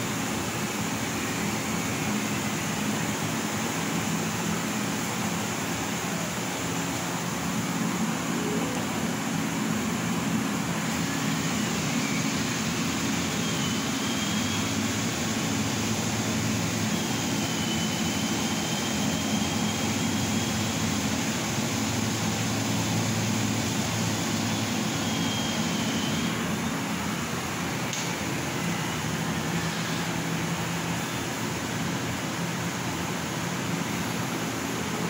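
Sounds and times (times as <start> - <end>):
laser cutter hum and hiss: 0.0 - 35.0.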